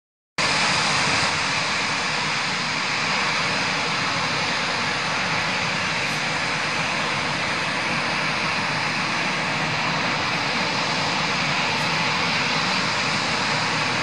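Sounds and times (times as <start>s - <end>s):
airliner jet noise: 0.4s - 14.0s.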